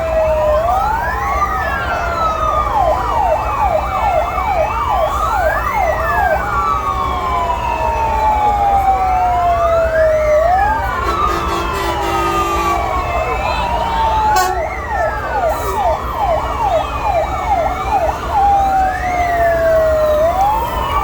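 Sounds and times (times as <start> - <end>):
fire truck siren wailing: 0.0 - 21.0.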